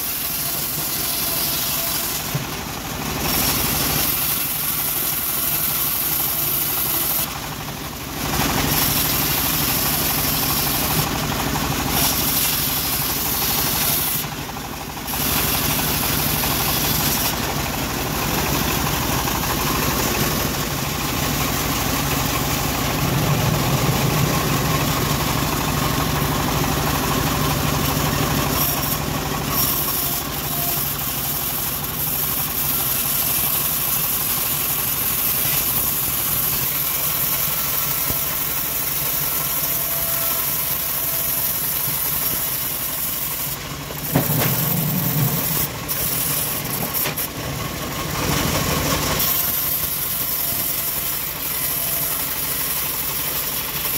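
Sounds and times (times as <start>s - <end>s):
band saw cutting wood: 0.0s - 53.9s.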